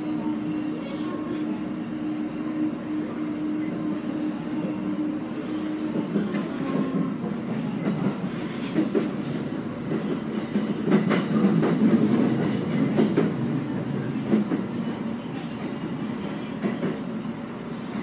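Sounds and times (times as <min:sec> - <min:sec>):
train running gear rumble: 0:02.7 - 0:18.0.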